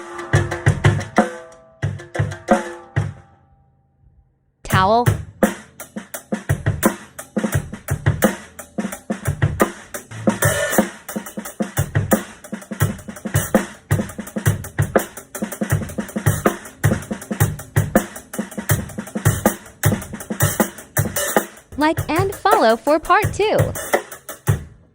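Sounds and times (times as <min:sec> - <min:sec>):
damped snare drum groove: 0:00.0 - 0:02.8, 0:04.7 - 0:24.8.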